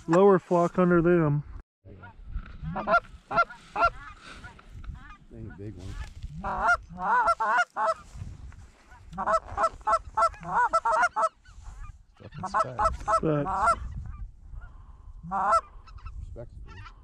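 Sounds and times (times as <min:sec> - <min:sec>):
goose call honks and clucks: 0:01.9 - 0:08.2, 0:08.8 - 0:17.0.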